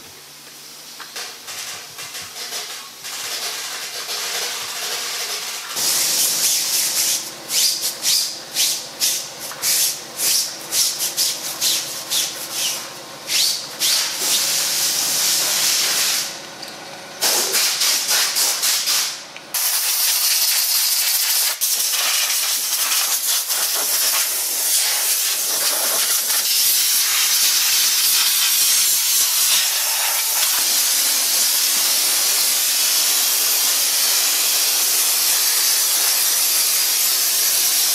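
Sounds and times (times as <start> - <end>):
steam cleaner jet hissing: 0.6 - 16.4, 17.2 - 37.9.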